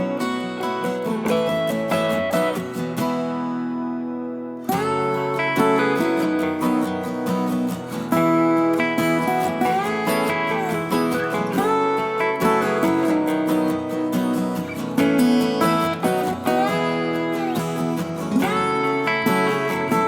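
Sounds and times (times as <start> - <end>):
strummed acoustic guitar music: 0.0 - 20.0.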